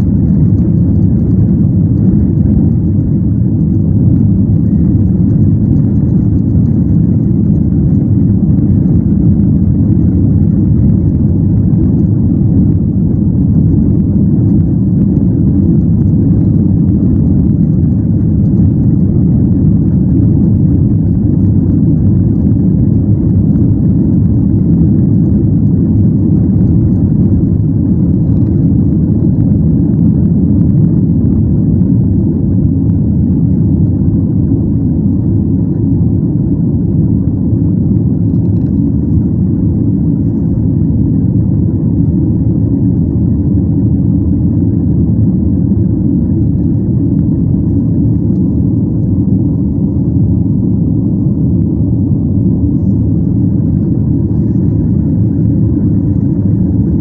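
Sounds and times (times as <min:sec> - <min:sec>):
jet engines at takeoff thrust: 0:00.0 - 0:57.0
wheels rumbling on runway: 0:00.0 - 0:57.0.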